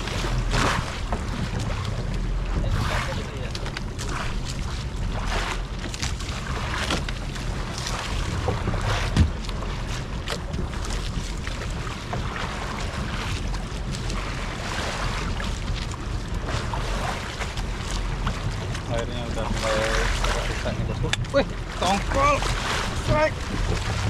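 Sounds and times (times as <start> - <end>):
water washing around boat: 0.0 - 24.0
wind buffeting microphone: 0.0 - 24.0.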